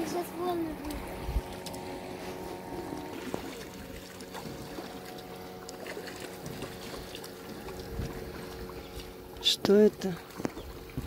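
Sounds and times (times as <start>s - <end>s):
distant outboard engine droning: 0.0s - 11.0s.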